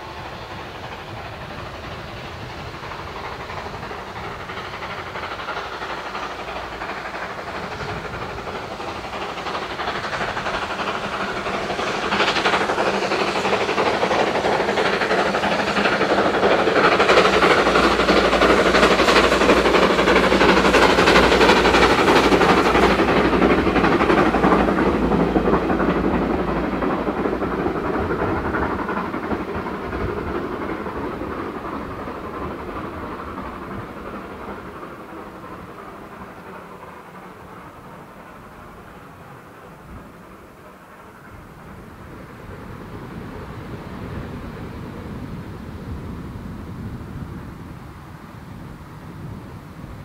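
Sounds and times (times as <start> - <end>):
steam train passing: 0.0 - 50.0.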